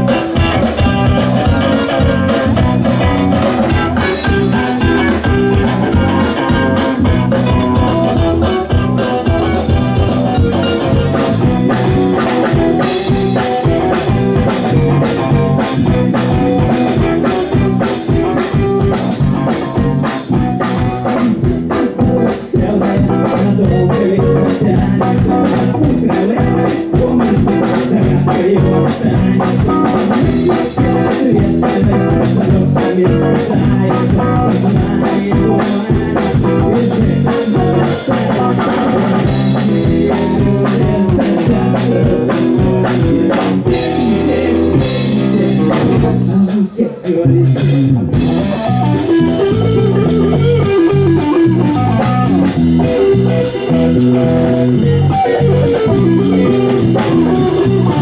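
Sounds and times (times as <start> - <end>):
drum kit beat: 0.0 - 58.0
electric guitar: 0.0 - 58.0.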